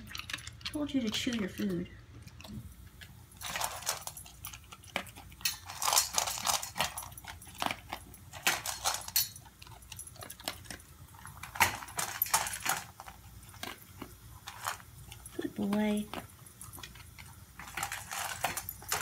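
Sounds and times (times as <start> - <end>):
dog crunching dry kibble: 0.0 - 19.0.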